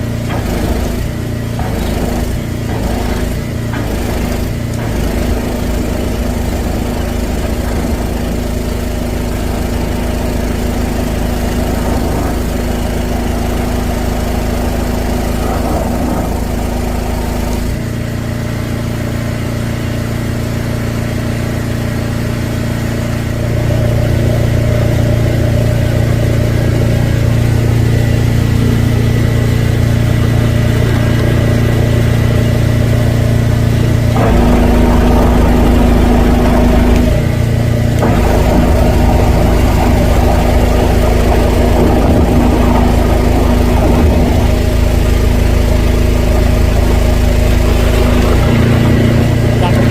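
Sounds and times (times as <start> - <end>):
drain jetter engine running: 0.0 - 49.9.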